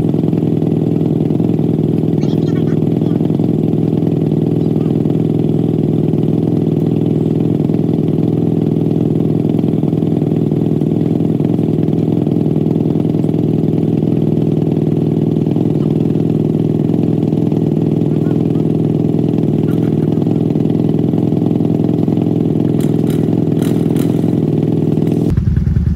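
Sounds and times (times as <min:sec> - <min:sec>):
quad bike engine idling: 0:00.0 - 0:25.9.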